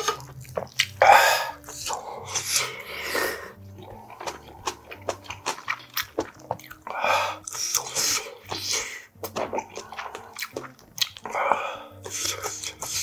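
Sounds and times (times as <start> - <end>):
mouth clicks: 0.0 - 2.7, 3.8 - 13.0
wet chewing: 0.0 - 13.0.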